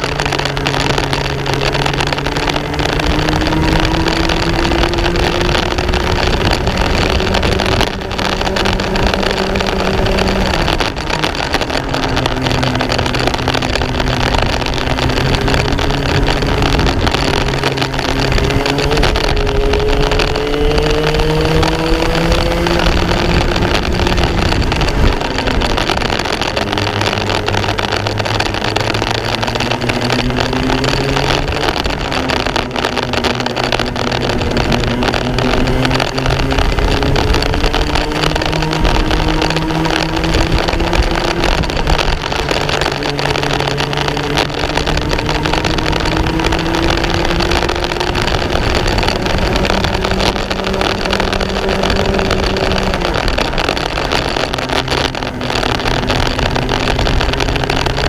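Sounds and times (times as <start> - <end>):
kart engine revving: 0.0 - 58.0
steady rushing noise: 0.0 - 58.0.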